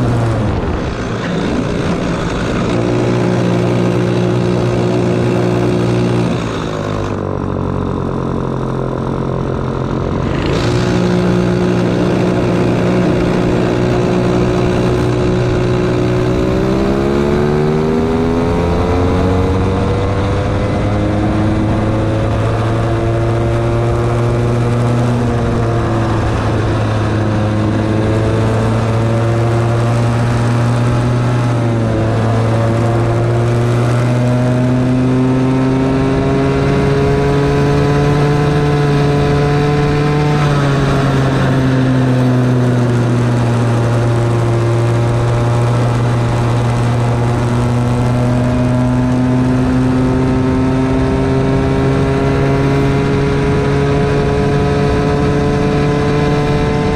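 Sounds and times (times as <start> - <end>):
two-stroke kart engine: 0.0 - 56.9.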